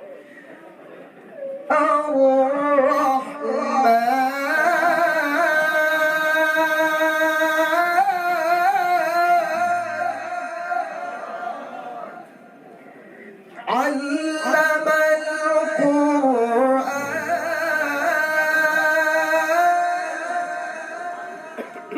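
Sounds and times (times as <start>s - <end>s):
man reciting melodically: 1.6s - 21.9s.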